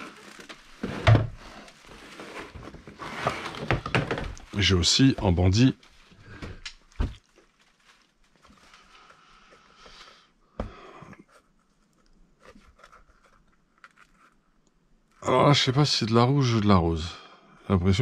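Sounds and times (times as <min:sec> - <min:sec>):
rubbery rustling: 0:00.0 - 0:10.3, 0:11.1 - 0:15.2.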